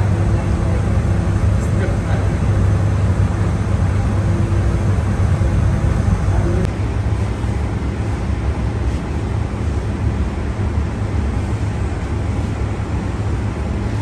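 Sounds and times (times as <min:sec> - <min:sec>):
bakery machinery rumbling: 0:00.0 - 0:14.0.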